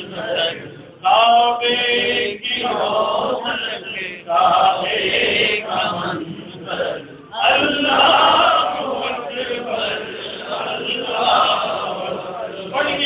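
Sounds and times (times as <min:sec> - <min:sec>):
man chanting devotional song: 0:00.0 - 0:13.0.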